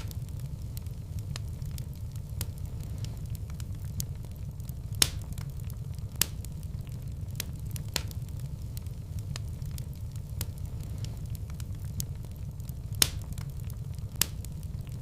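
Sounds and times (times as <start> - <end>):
fire pops and snaps: 0.0 - 15.0
fireplace flames rumbling: 0.0 - 15.0.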